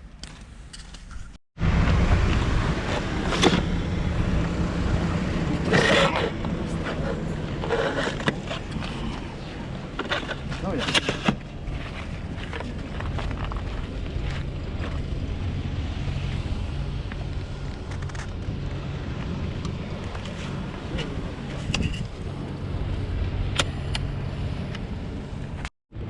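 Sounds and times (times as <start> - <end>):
vehicle engine running: 1.6 - 26.0.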